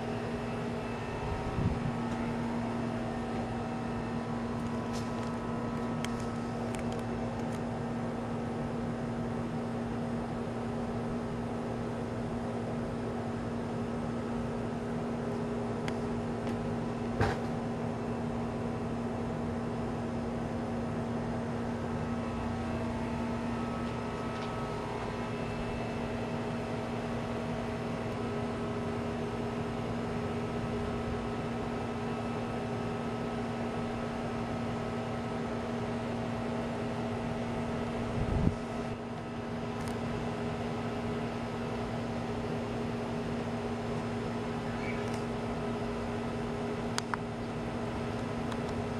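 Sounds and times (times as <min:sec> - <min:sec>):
mechanical hum: 0:00.0 - 0:48.9.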